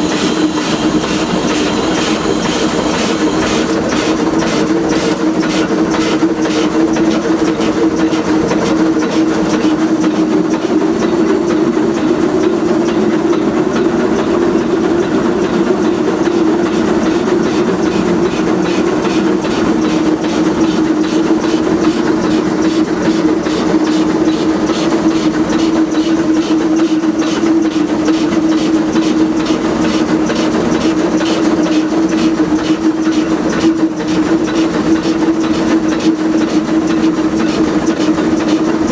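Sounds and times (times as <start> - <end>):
steady hum: 0.0 - 33.3
steam locomotive exhaust beats: 0.0 - 38.9.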